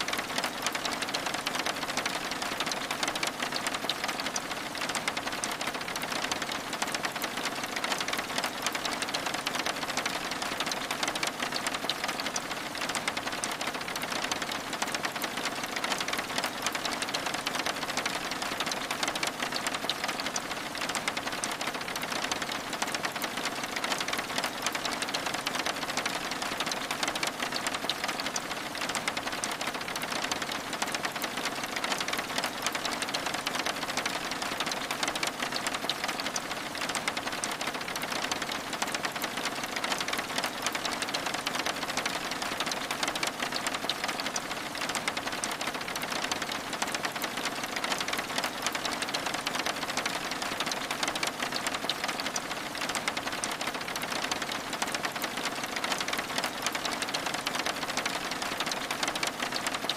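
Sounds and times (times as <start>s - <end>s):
rain pattering on window: 0.0s - 59.9s.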